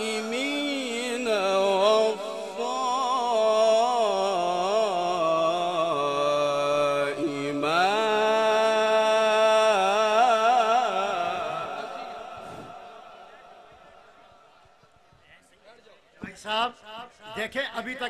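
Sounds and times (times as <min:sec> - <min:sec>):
man reciting melodically: 0:00.0 - 0:14.3, 0:16.2 - 0:18.0.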